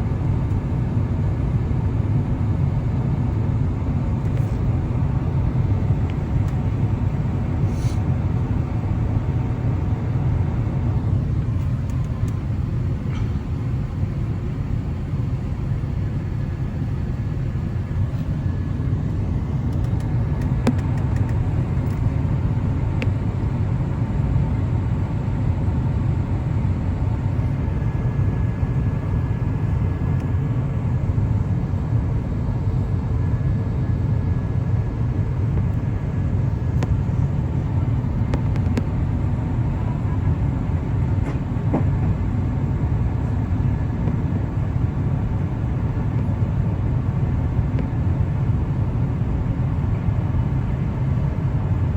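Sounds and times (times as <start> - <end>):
airplane cabin roar: 0.0 - 51.9.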